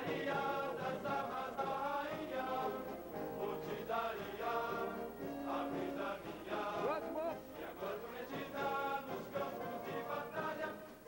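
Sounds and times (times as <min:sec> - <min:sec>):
choir singing a military song: 0:00.0 - 0:11.0.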